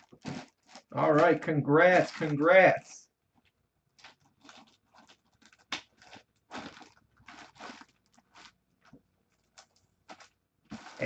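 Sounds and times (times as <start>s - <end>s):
plastic packaging crinkling: 0.0s - 2.8s, 3.4s - 11.0s.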